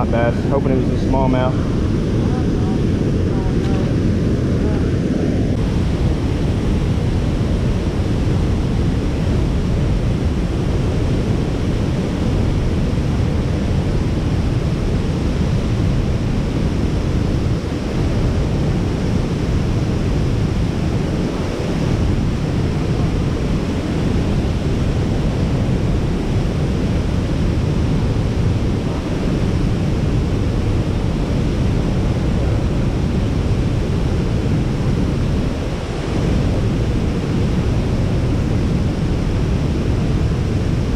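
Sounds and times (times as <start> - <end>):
wind buffeting microphone: 0.0 - 40.9
water rushing over a spillway: 3.1 - 40.9.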